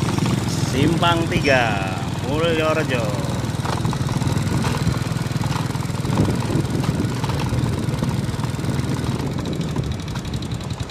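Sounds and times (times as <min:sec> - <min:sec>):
small motorcycle engine running: 0:00.0 - 0:10.9.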